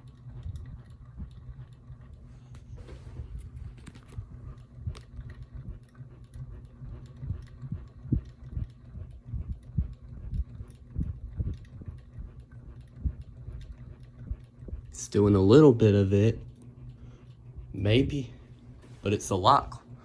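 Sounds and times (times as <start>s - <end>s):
ceiling fan humming: 0.0s - 20.0s
fan knocking and ticking: 0.0s - 20.0s.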